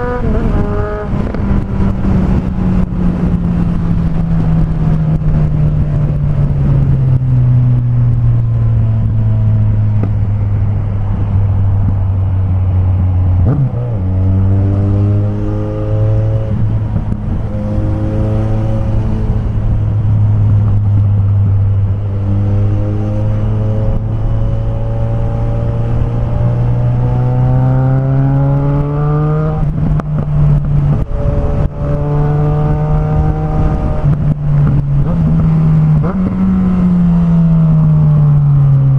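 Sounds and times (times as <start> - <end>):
motorcycle engine running: 0.0 - 15.3, 16.0 - 38.9.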